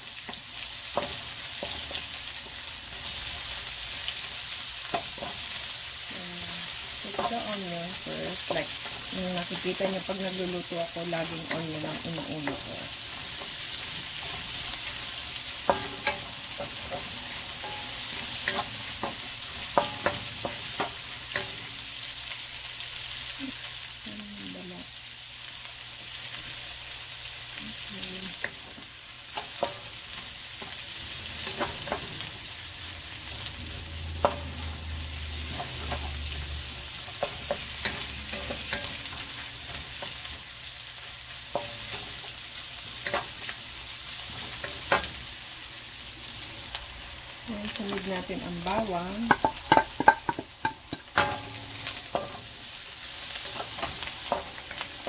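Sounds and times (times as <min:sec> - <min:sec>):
onions sizzling in a wok: 0:00.0 - 0:55.0.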